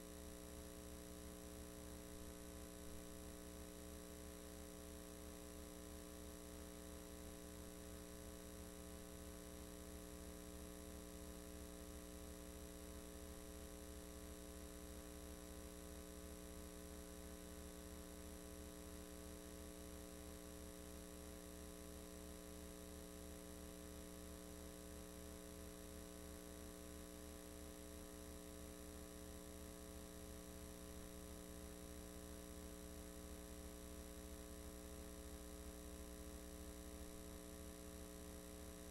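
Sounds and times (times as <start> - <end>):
faint electrical mains hum: 0.0 - 38.9.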